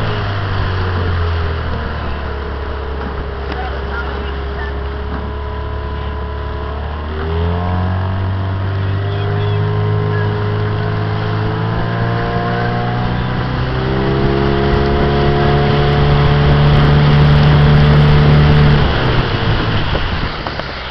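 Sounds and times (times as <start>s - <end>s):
motorboat engine running: 0.0s - 20.9s.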